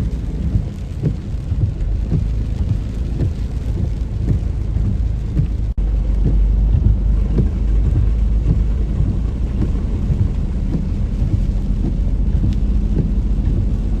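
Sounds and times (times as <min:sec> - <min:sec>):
deep steady rumble: 0:00.0 - 0:14.0
heavy rain pattering: 0:00.0 - 0:14.0.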